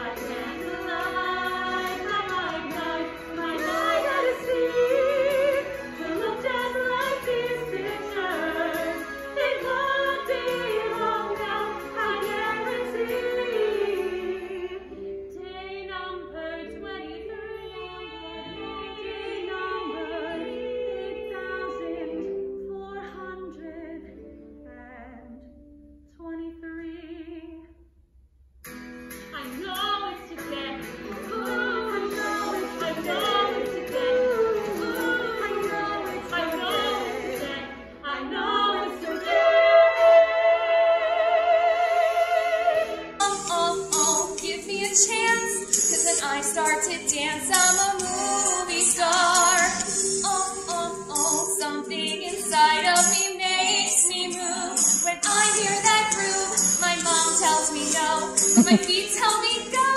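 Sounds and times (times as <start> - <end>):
women singing with accompaniment: 0.0 - 25.4, 29.4 - 59.9.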